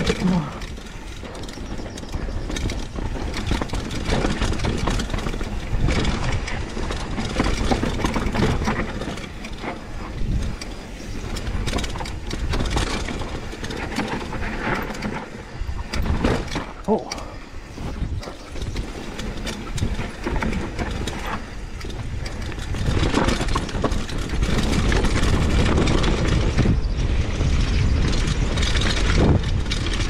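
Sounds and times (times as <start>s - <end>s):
bike rattling and knocking: 0.0s - 30.0s
bike tyres on dirt and stones: 0.0s - 30.0s
wind rumble on microphone: 0.0s - 30.0s.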